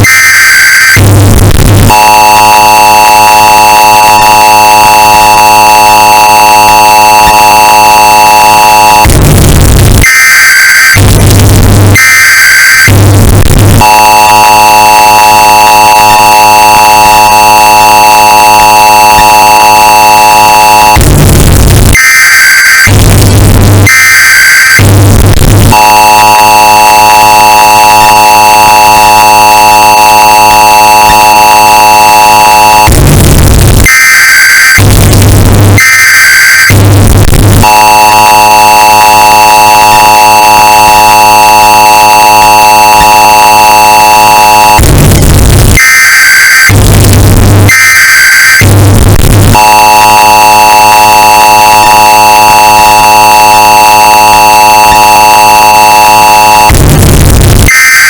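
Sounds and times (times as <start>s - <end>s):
distorted bass thumps: 0.0s - 2.7s, 3.3s - 52.2s, 55.6s - 57.8s
screeching data bursts: 0.0s - 9.4s, 10.4s - 21.8s, 22.9s - 35.0s, 37.5s - 44.9s, 49.5s - 56.8s
distorted two-tone alert signal: 0.0s - 48.7s, 49.4s - 58.0s.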